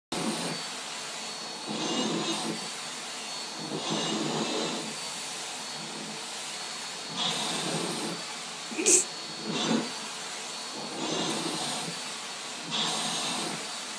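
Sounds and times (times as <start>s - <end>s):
vacuum cleaner running: 0.1s - 13.9s.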